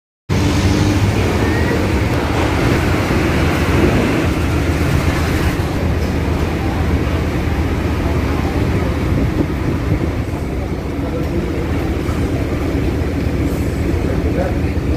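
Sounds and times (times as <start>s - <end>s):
heavy vehicle engines rumbling: 0.3s - 14.9s.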